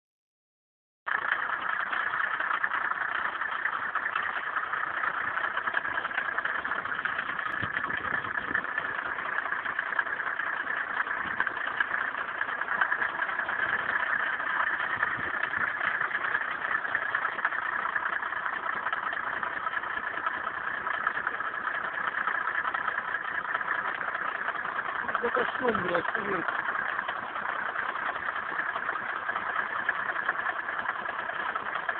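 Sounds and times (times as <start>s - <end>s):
diesel engine idling: 1.1s - 31.9s
engine knock: 1.1s - 31.9s.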